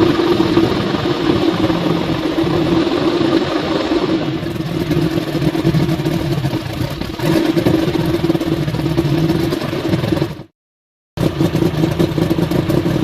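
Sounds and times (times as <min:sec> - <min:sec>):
outboard motor running: 0:00.0 - 0:10.6, 0:11.2 - 0:13.0.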